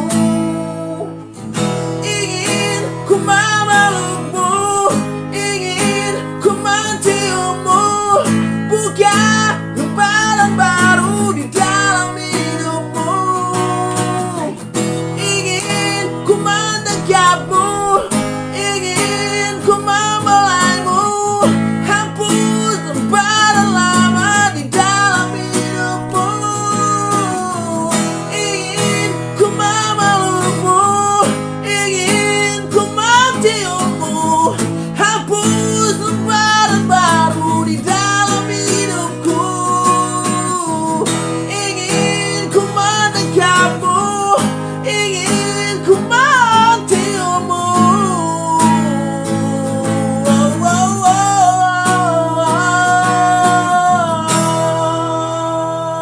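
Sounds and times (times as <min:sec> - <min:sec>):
guitar-backed song: 0:00.0 - 0:56.0.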